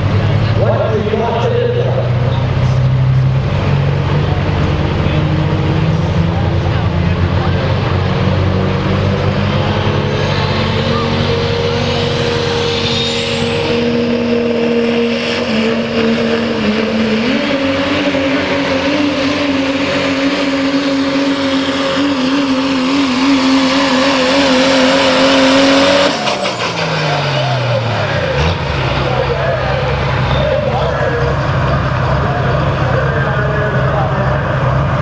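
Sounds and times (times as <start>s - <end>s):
diesel pickup engine under load: 0.0s - 35.0s.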